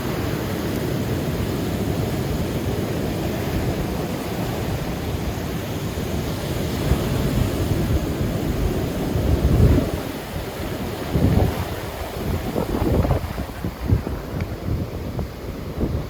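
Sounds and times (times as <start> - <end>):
rough surf breaking on shore: 0.0 - 16.0
wind rumbling on microphone: 0.0 - 16.0.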